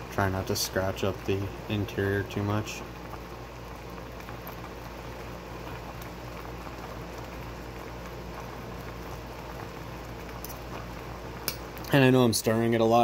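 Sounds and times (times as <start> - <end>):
water boiling and bubbling: 0.0 - 13.0.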